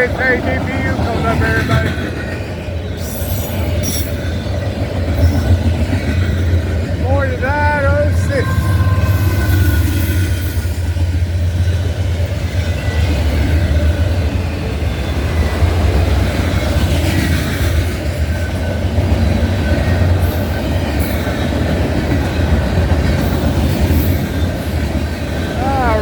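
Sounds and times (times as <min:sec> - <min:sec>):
wheels clattering on rail: 0:00.0 - 0:07.2, 0:08.6 - 0:25.6
freight train rumbling past: 0:00.0 - 0:26.0.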